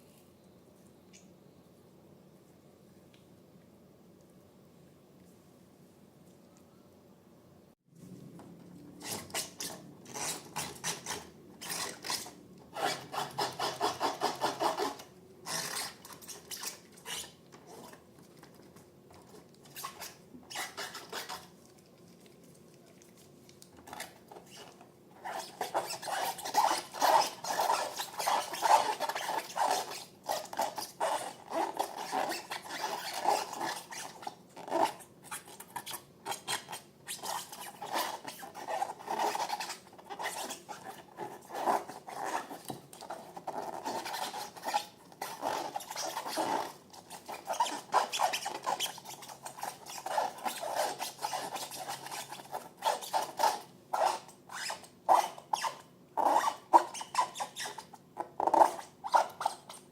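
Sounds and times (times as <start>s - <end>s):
slime being rubbed and scraped: 9.0s - 18.5s, 19.2s - 57.8s.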